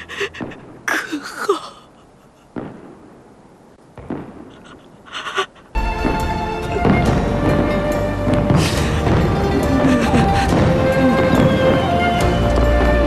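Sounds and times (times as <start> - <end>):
fireworks bursts and crackles: 0.0 - 13.0.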